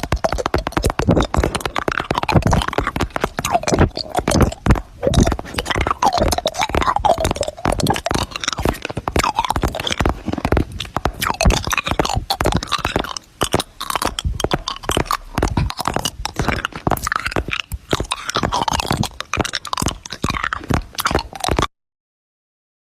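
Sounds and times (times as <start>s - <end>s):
mouth clicks and smacks: 0.0s - 21.7s
squeaky voiced sounds: 0.0s - 21.7s.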